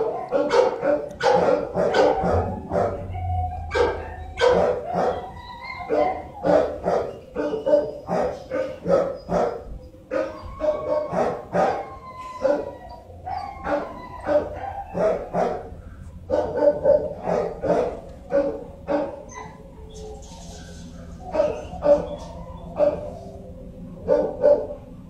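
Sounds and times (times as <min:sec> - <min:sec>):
dog barking: 0:00.0 - 0:15.7, 0:16.3 - 0:19.6, 0:20.5 - 0:23.2, 0:24.0 - 0:24.8.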